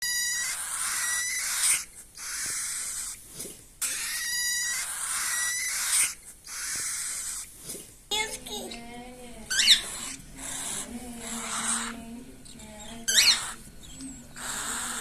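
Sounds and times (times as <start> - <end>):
parrot chicks begging calls: 0.0 - 3.2, 3.8 - 15.0.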